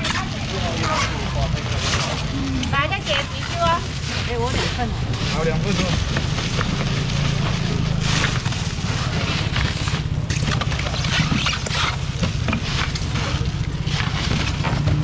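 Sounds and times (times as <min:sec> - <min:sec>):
rustling and handling noises: 0:00.0 - 0:15.0.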